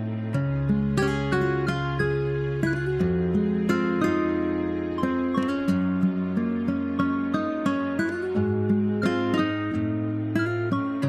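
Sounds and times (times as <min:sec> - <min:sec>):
plucked acoustic guitar: 0:00.0 - 0:11.0.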